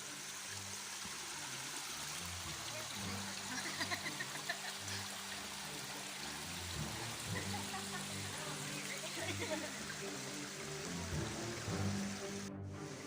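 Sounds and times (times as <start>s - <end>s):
soft background music: 0.0s - 13.0s
stream running over rocks: 0.0s - 13.0s.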